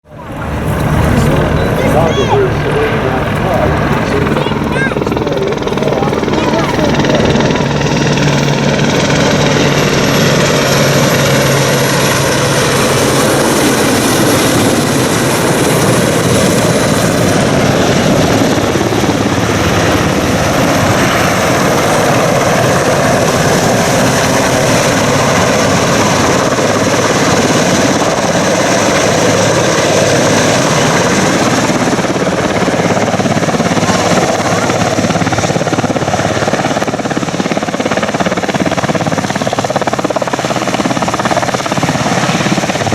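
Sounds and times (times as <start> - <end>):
helicopter rotors and engines: 0.0 - 42.9.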